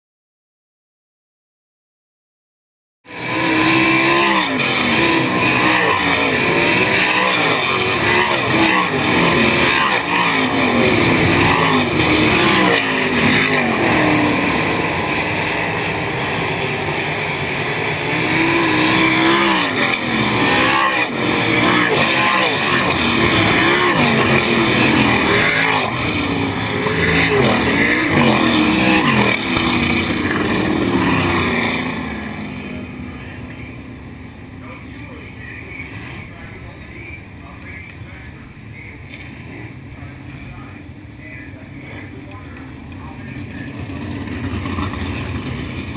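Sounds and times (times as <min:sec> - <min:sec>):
race car engines passing: 0:03.1 - 0:45.9.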